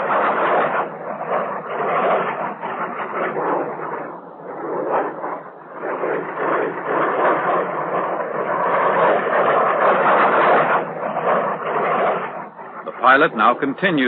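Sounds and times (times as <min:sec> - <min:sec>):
jet engine rushing: 0:00.0 - 0:14.0.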